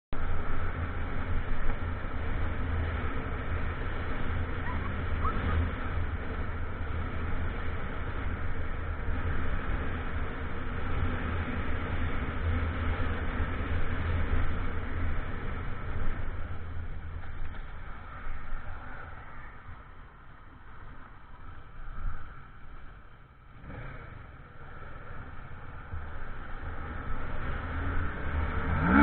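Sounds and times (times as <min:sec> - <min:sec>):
motorcycle engine drone: 0:00.1 - 0:29.0
wind and road noise: 0:00.1 - 0:29.0.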